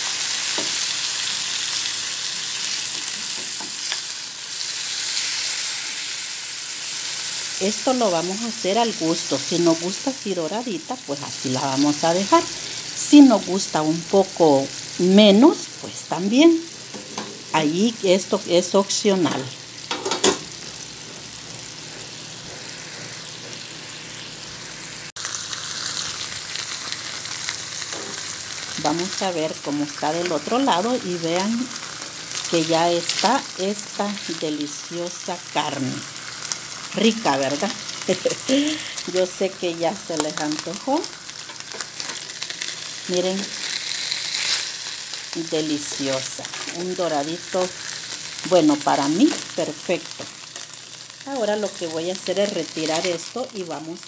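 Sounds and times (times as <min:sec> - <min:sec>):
steaks sizzling in hot oil: 0:00.0 - 0:54.0.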